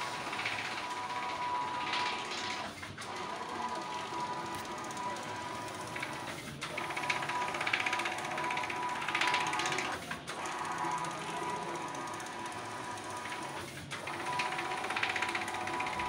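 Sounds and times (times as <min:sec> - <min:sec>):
printer whining and clicking: 0:00.0 - 0:16.0.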